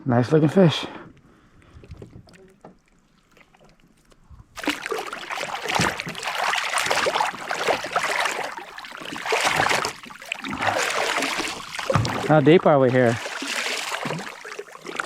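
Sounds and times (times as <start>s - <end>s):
water sloshing and splashing: 1.1s - 15.0s.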